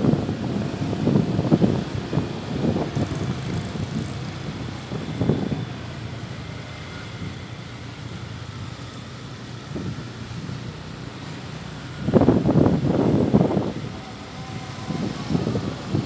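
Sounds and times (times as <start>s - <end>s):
vehicles driving on road: 0.0s - 16.0s.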